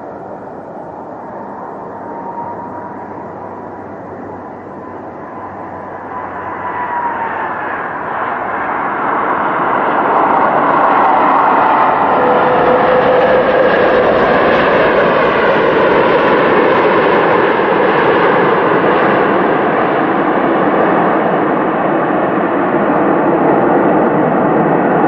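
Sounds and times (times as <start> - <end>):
airliner engine with high whine: 0.0 - 25.0.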